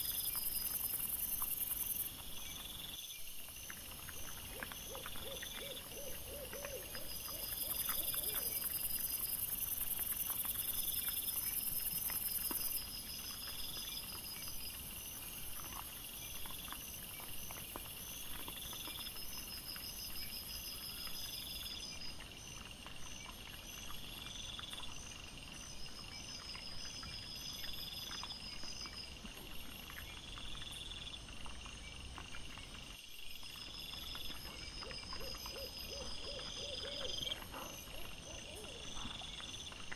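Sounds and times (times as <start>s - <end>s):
night insects chirping: 0.0s - 39.9s.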